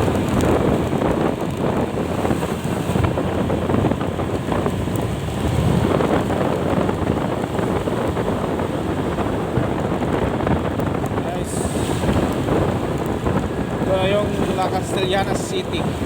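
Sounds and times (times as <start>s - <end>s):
road and vehicle noise: 0.0s - 16.0s
wind buffeting microphone: 0.0s - 16.0s.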